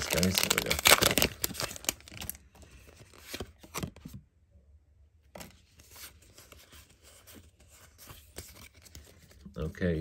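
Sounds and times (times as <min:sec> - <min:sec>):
trading cards rustling and flicking: 0:00.0 - 0:04.2, 0:05.3 - 0:10.0.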